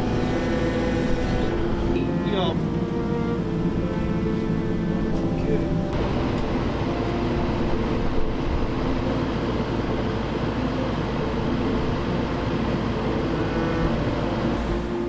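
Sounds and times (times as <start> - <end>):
compaction machine rumbling: 0.0 - 15.0.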